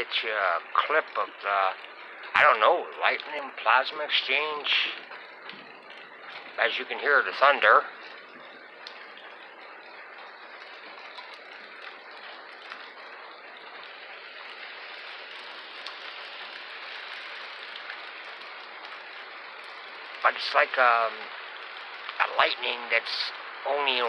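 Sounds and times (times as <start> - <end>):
rain hissing: 0.0 - 24.0.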